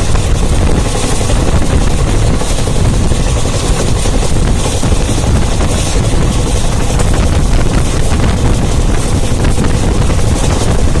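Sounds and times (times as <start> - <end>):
train running noise: 0.0 - 11.0
wind buffeting microphone: 0.0 - 11.0.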